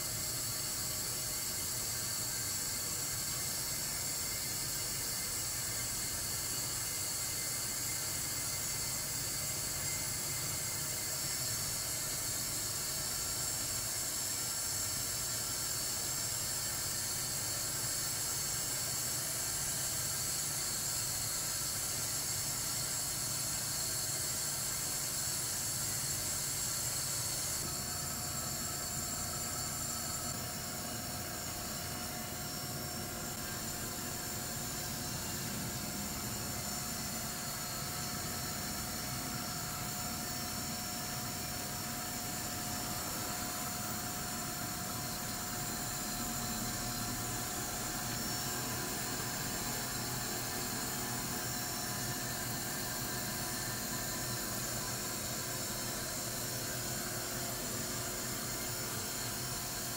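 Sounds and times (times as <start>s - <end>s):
air conditioner unit hissing: 0.0s - 59.9s.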